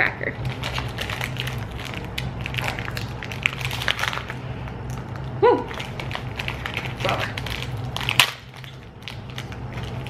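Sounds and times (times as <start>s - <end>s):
plastic wrapper crinkling: 0.4s - 10.0s.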